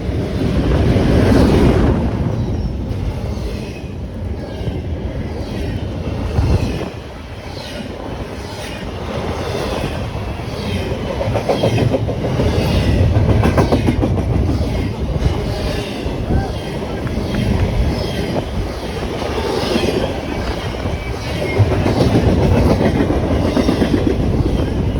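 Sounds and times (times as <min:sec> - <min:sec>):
freight train rumbling past: 0:00.0 - 0:24.9
train wheels clicking on rails: 0:00.0 - 0:24.9.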